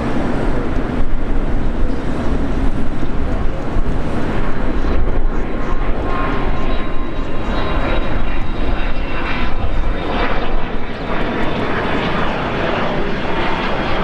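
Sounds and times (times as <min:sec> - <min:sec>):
jet engines at takeoff thrust: 0:00.0 - 0:14.0.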